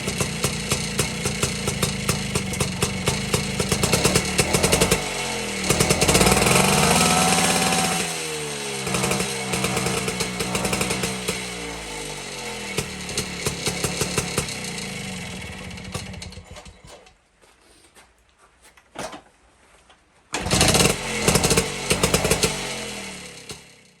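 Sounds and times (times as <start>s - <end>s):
two-stroke engine revving: 0.0s - 16.9s, 20.4s - 24.0s.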